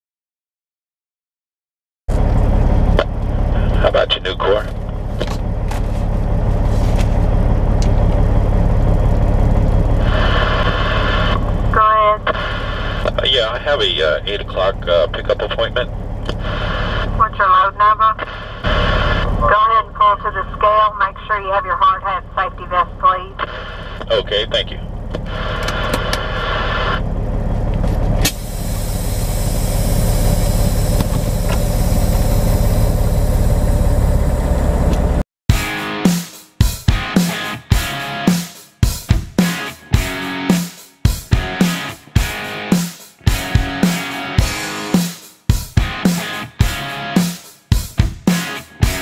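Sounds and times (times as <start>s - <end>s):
diesel engine idling: 2.1s - 49.0s.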